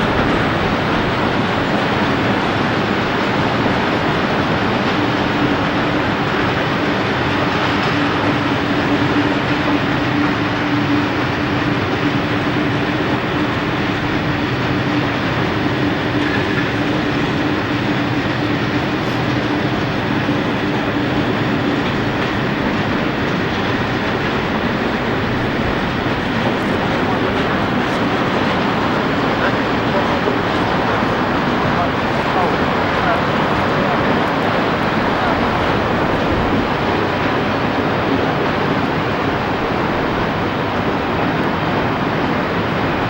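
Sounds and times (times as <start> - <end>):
train engine hum: 0.0 - 43.0
wheel and rail noise: 0.0 - 43.0.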